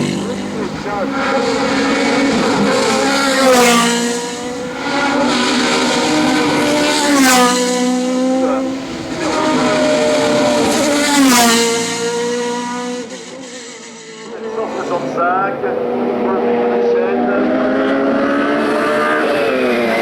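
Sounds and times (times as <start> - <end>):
race car engine shifting gears: 0.0 - 20.0.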